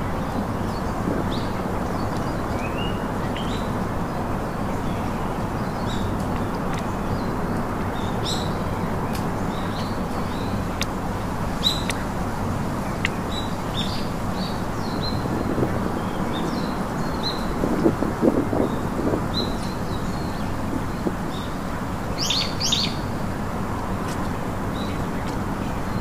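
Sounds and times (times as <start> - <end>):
steady rushing noise: 0.0 - 22.2
birds chirping: 0.0 - 26.0.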